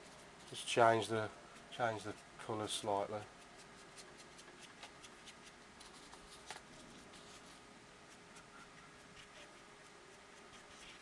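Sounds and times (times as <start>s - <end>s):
paintbrush tapping and scratching paper: 0.0s - 11.0s.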